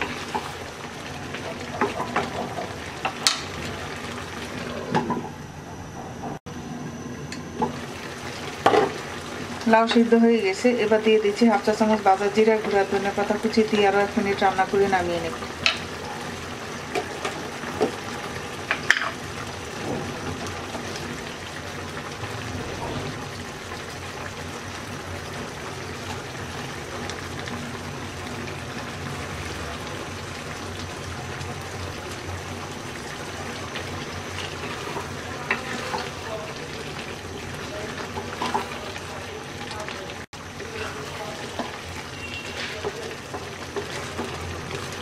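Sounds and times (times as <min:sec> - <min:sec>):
curry bubbling and sizzling: 0:00.0 - 0:05.4, 0:06.2 - 0:45.0.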